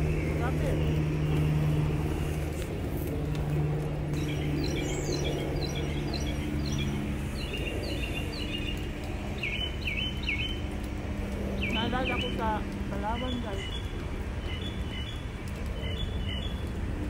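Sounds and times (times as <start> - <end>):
small birds chirping: 0.0 - 17.0
steady low drone: 0.0 - 17.0.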